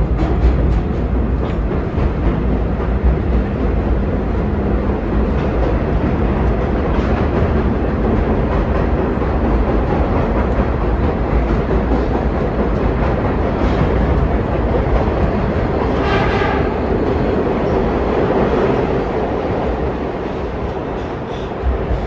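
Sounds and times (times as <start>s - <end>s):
subway train rumbling on rails: 0.0s - 22.0s.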